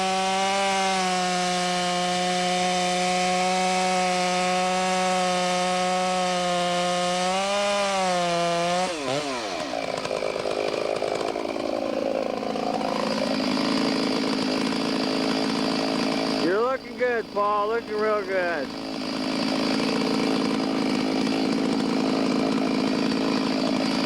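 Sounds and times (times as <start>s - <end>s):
chainsaw cutting a tree: 0.0s - 24.0s.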